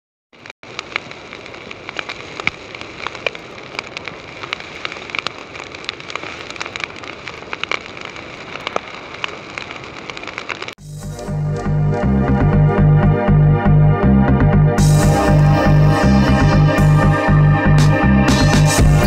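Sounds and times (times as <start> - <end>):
wood fire crackling and popping: 0.4 - 12.6, 14.8 - 19.0.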